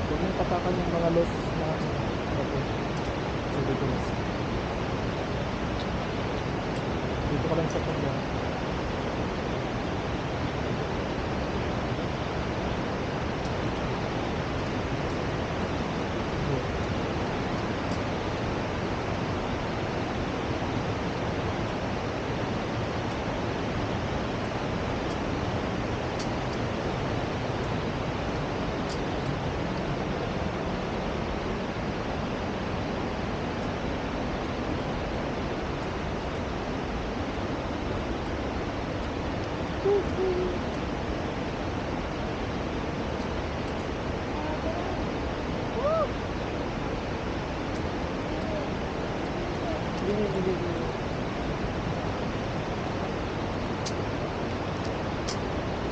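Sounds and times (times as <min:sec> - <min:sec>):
fast-flowing water rushing: 0:00.0 - 0:55.9.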